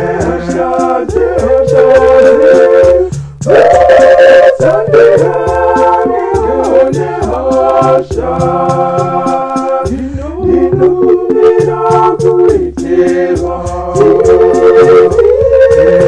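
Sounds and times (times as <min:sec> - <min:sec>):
ticking beat: 0:00.0 - 0:16.0.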